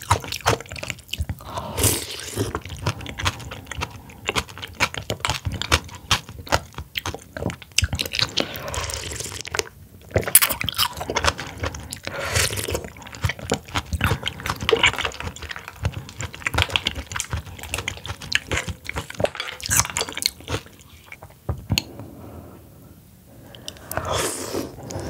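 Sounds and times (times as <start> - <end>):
slurping broth: 0.0 - 6.1, 7.9 - 9.6, 10.2 - 21.2, 23.4 - 25.0
wet chewing and smacking: 0.0 - 21.9.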